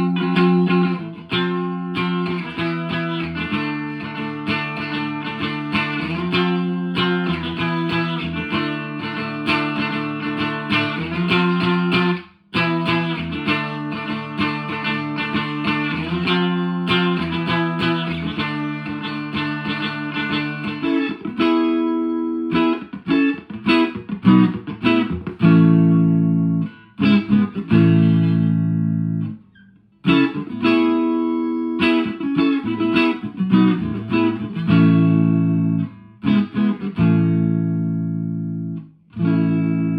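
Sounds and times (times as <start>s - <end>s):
ringing guitar chords cut off: 0.0s - 29.3s, 30.0s - 39.9s
electric guitar through valve amp: 0.0s - 39.9s.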